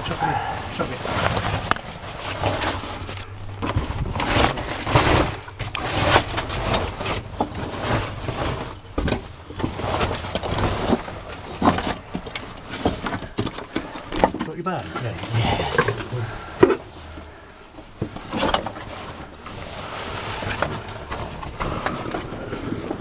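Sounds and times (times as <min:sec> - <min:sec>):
bags and gear rustling: 0:00.0 - 0:14.2, 0:14.8 - 0:23.0
low steady hum: 0:00.0 - 0:23.0.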